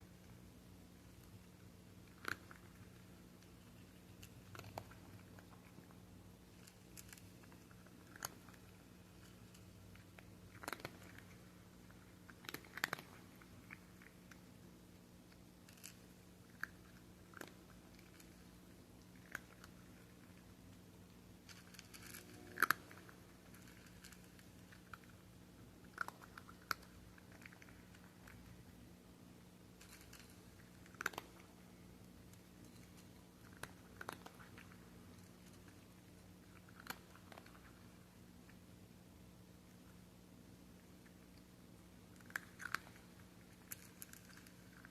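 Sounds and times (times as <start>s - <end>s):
cats crunching kibble: 0.0s - 44.9s
faint low hum: 0.0s - 44.9s.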